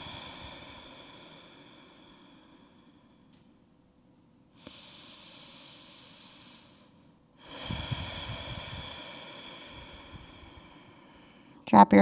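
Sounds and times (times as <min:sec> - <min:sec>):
person breathing slowly: 0:00.0 - 0:03.5, 0:04.6 - 0:11.6.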